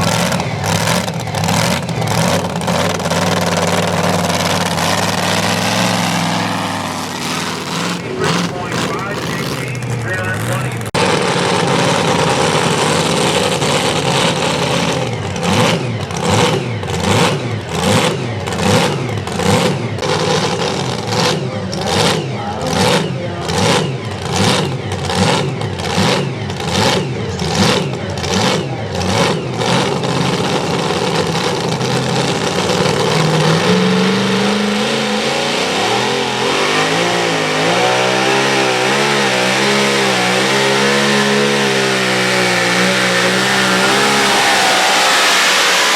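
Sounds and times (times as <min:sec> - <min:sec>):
truck engine running hard: 0:00.0 - 0:45.9.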